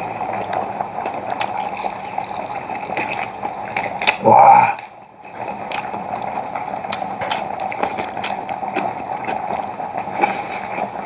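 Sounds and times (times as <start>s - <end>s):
stew bubbling in a pot: 0.0s - 11.0s
crunchy chewing: 0.4s - 6.3s, 6.9s - 10.9s.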